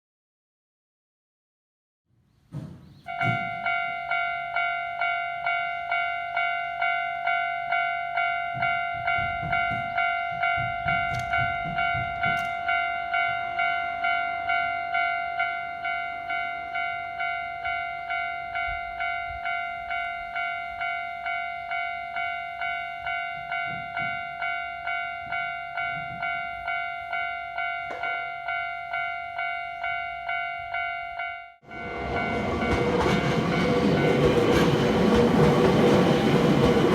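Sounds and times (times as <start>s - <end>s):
level crossing warning bell ringing: 3.1s - 36.9s.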